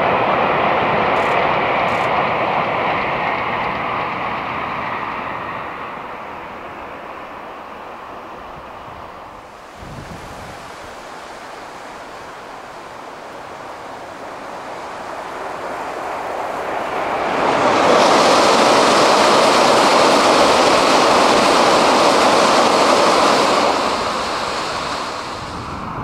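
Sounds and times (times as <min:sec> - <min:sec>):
train passing at high speed: 0:00.0 - 0:26.0.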